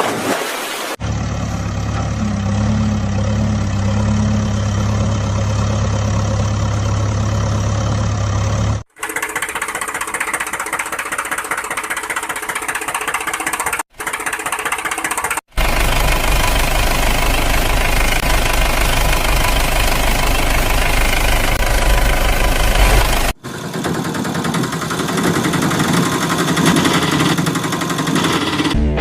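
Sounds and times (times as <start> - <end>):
engine running: 1.0 - 29.0.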